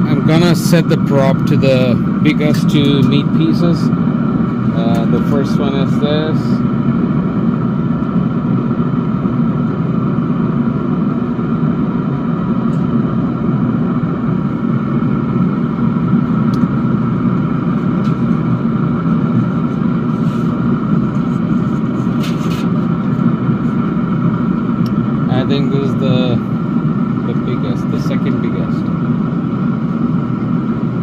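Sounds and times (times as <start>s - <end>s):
smoker fan whirring: 0.0s - 31.0s.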